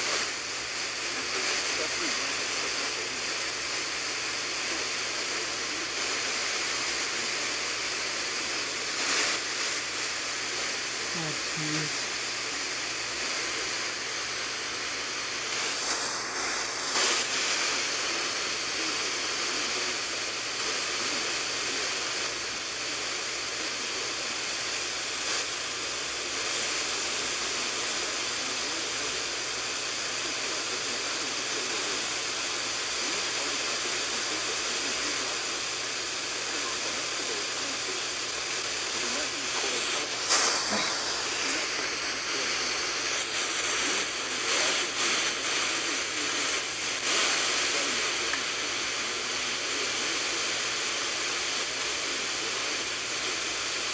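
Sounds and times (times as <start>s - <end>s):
radio static hiss: 0.0s - 53.9s.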